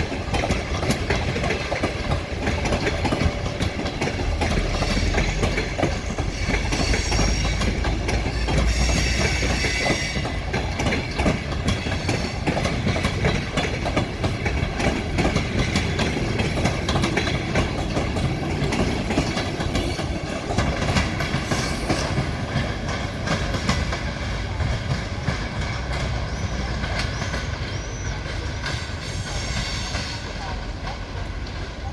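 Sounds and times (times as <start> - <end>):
train wheels clicking over joints: 0.0 - 31.9.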